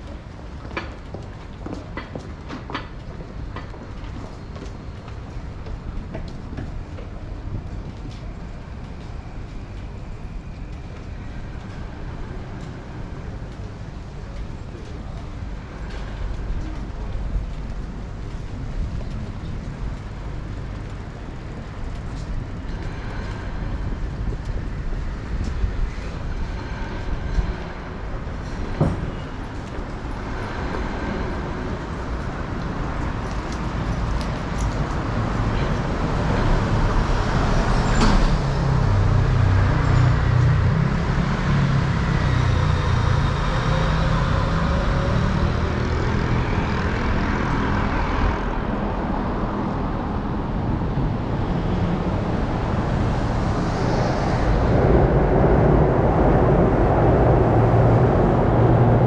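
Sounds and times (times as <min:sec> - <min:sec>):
vehicles passing: 0:10.8 - 0:59.0.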